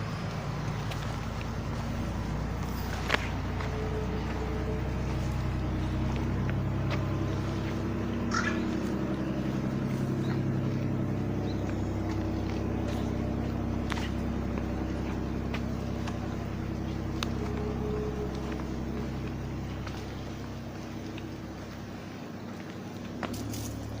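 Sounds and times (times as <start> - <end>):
motor droning: 0.0 - 24.0.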